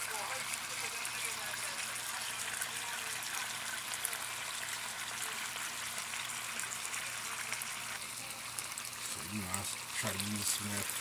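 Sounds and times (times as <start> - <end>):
chicken sizzling and crackling: 0.0 - 11.0.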